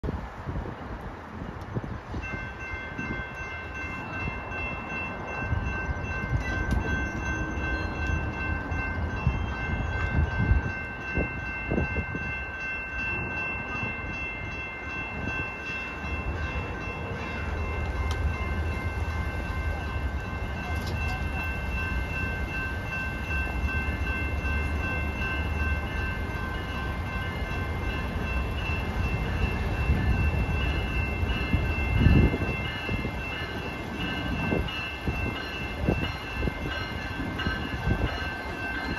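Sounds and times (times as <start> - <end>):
wind hitting microphone: 0.0 - 25.0, 26.1 - 38.9
train rumble: 0.0 - 38.9
crossing warning bell ringing: 0.2 - 38.9.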